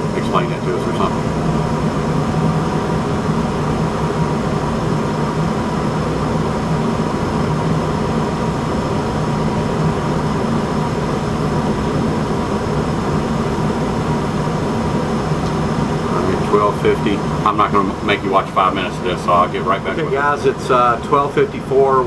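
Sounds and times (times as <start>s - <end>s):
faint steady tones: 0.0s - 22.0s
furnace mechanical hum: 0.0s - 22.0s.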